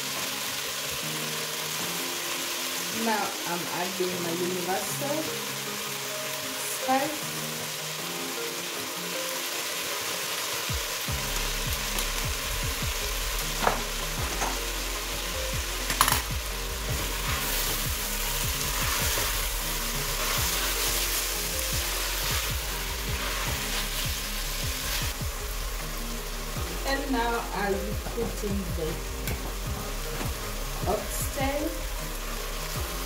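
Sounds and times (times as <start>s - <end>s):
vegetables sizzling in a pot: 0.0s - 33.0s.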